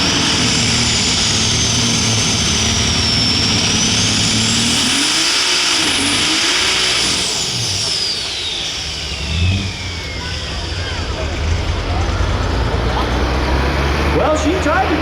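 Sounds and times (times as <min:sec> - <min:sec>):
high turbo whine: 0:00.0 - 0:15.0
tractor engine running flat out: 0:00.0 - 0:15.0.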